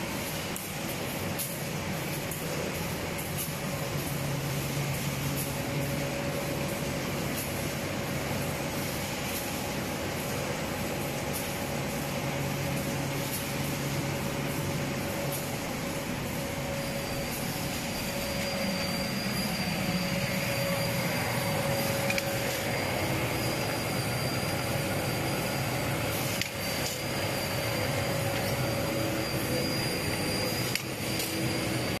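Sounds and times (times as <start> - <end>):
industrial machine running: 0.0 - 32.0
thin high whine: 0.4 - 32.0.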